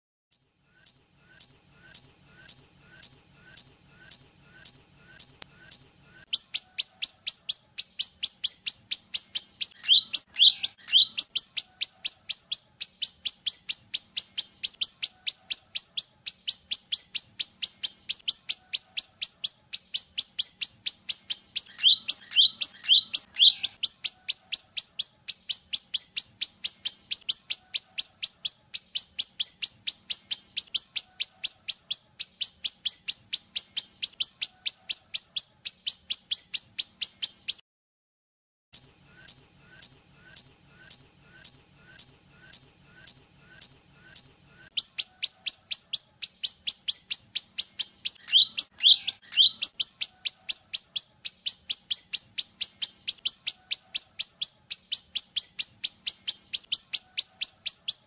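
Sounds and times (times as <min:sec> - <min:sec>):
high thin bird chirps: 0:00.3 - 0:37.6, 0:38.7 - 0:58.0.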